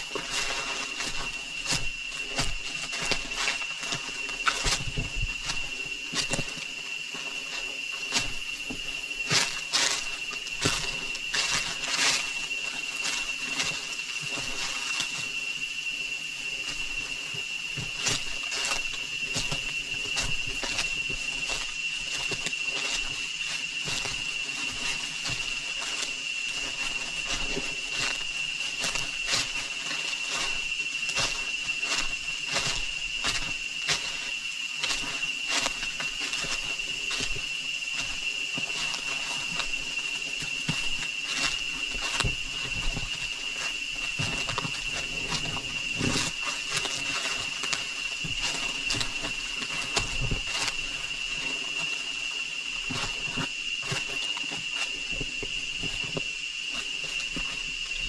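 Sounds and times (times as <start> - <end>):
rainforest insects droning: 0.0 - 58.0.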